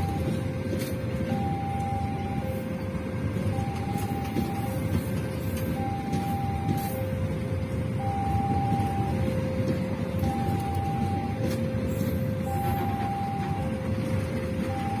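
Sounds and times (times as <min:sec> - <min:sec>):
train wheels rumbling on rails: 0:00.0 - 0:15.0
two-tone crossing alarm: 0:00.0 - 0:15.0.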